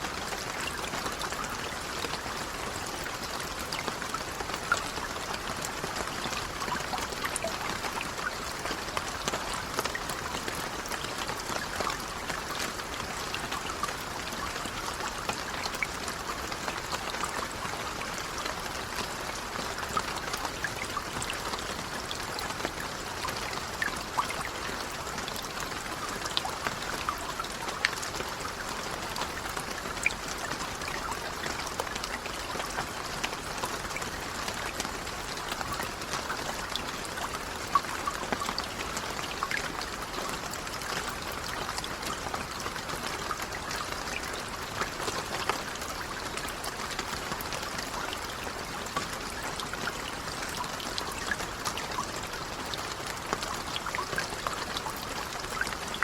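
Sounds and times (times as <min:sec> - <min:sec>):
light rain pattering: 0:00.0 - 0:56.0.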